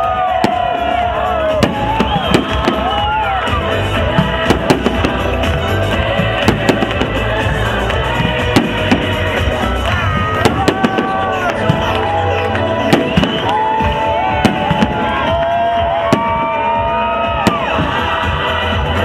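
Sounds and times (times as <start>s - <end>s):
fireworks bangs and cracks: 0.0s - 19.0s
music playing: 0.0s - 19.0s.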